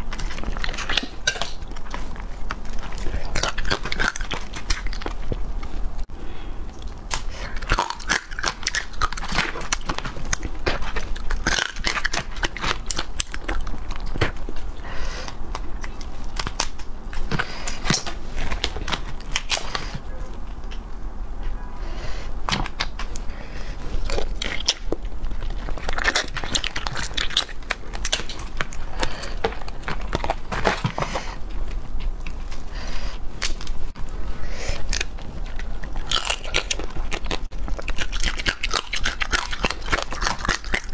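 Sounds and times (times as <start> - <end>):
chewing crunchy crab shells: 0.0 - 21.1, 22.4 - 32.7, 33.4 - 40.9.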